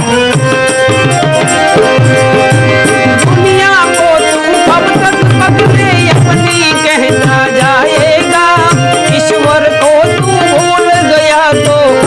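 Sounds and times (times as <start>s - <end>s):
tabla rhythm: 0.0s - 12.0s.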